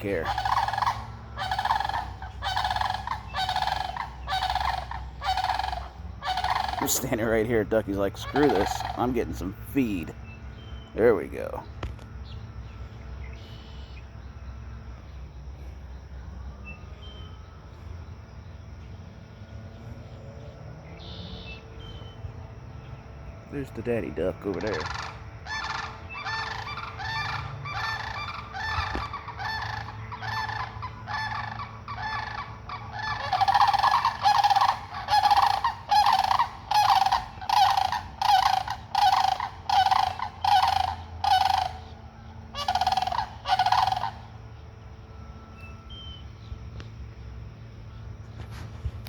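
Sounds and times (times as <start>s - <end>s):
cranes rolling calls: 0.0s - 16.0s, 18.8s - 46.5s.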